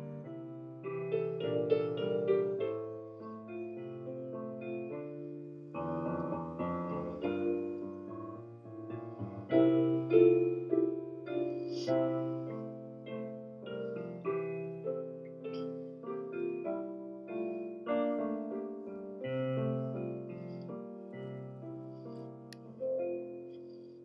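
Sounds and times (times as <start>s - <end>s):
slow piano music: 0.0s - 24.0s.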